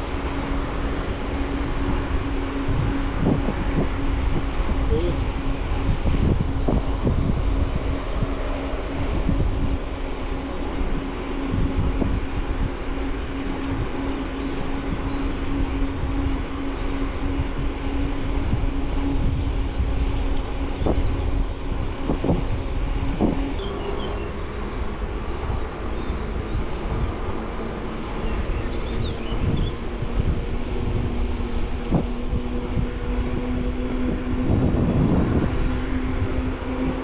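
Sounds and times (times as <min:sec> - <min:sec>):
bicycle tyre rumble: 0:00.0 - 0:37.0
steady whine: 0:00.0 - 0:37.0
wind buffeting microphone: 0:00.0 - 0:37.0.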